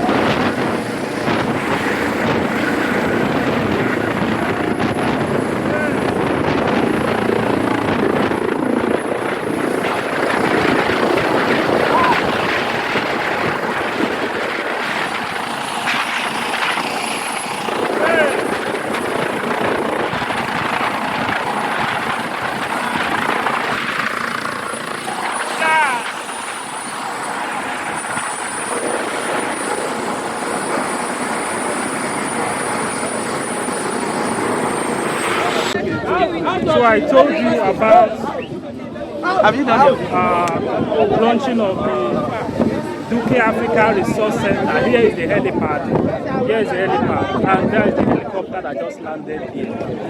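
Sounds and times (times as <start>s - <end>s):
helicopter rotor and engine: 0.0s - 50.0s
wind buffeting microphone: 0.0s - 50.0s.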